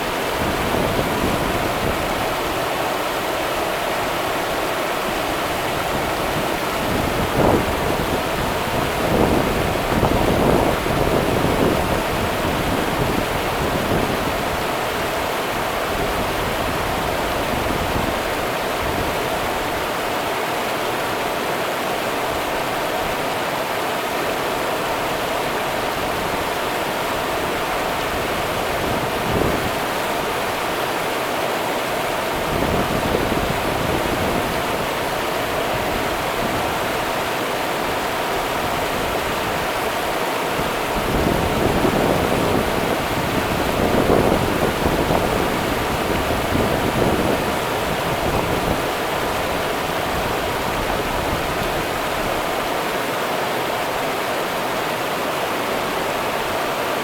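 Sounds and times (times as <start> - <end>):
rush of running water: 0.0 - 57.0.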